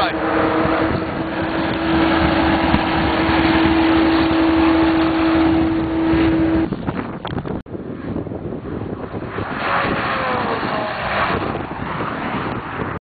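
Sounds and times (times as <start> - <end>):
car engine running loud: 0.0 - 13.0
constant whine: 0.0 - 13.0
uneven vehicle sound: 0.0 - 13.0.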